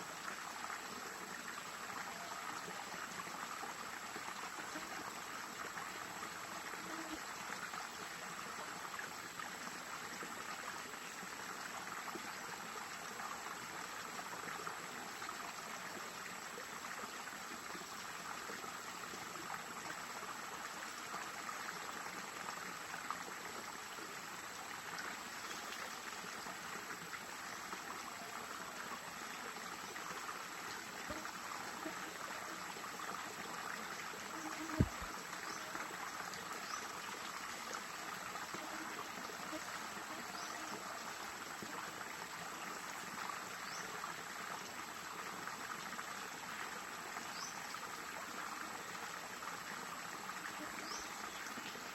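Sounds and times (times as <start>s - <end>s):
stream flowing over rocks: 0.0s - 51.9s.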